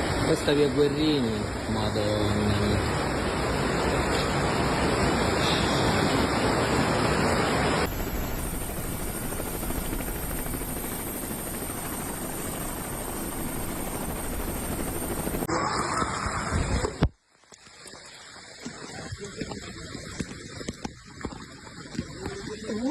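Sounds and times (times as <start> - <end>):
floodwater rushing: 0.0 - 22.9.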